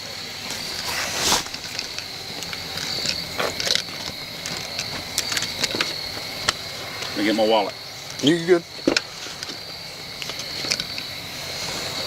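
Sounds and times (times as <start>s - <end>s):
crickets chirping: 0.0s - 12.0s
handling clicks and rustle: 0.4s - 7.4s, 8.0s - 12.0s.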